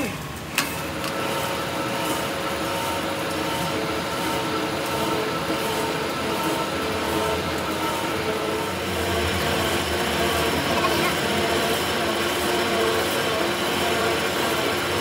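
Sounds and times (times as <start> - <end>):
workshop machine humming: 0.0 - 15.0.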